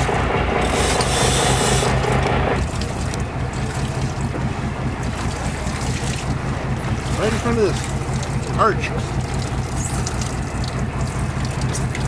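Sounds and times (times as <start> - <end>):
boat motor running: 0.0 - 12.0
wind: 0.0 - 12.0
water noise: 2.1 - 12.0.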